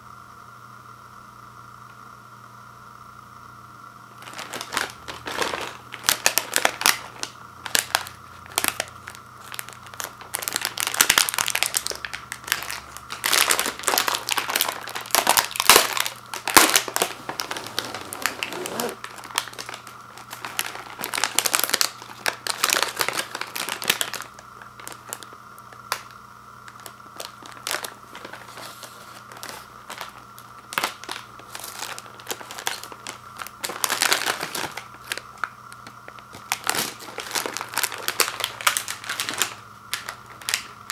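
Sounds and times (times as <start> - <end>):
plastic wrapper crinkling: 4.2 - 40.9.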